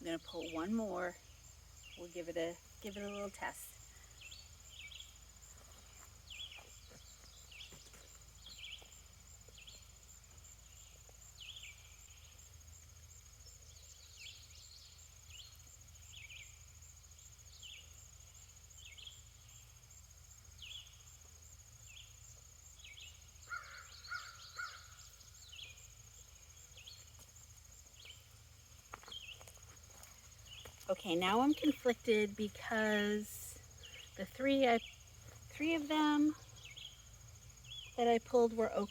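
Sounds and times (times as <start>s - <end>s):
high insect trill: 0.0s - 38.9s.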